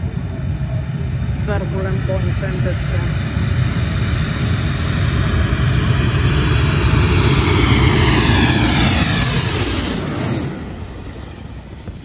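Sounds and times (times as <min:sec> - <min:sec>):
jet airliner engines: 0:00.0 - 0:12.0.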